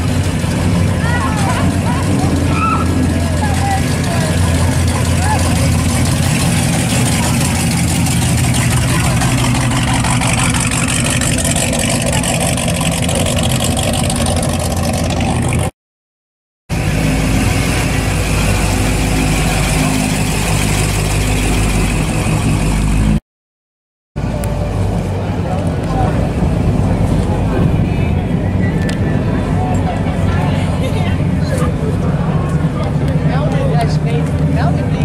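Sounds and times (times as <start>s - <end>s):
old car engines rumbling: 0.0s - 15.7s, 16.7s - 23.2s, 24.2s - 35.0s.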